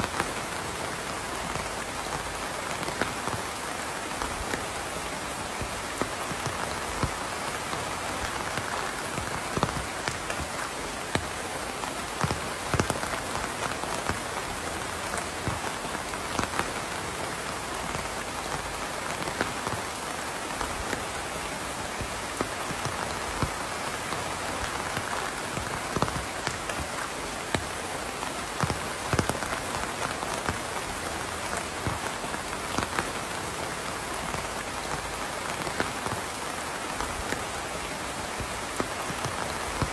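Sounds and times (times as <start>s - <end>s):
rain falling: 0.0s - 39.9s
raindrops striking close by: 0.0s - 39.9s.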